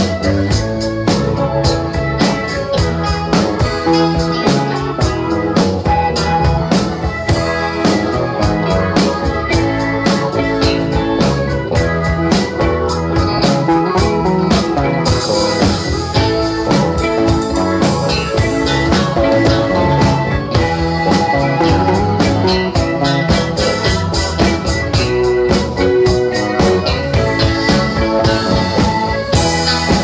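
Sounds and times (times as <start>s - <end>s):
electric organ lead: 0.0s - 30.0s
live rock band playing: 0.0s - 30.0s.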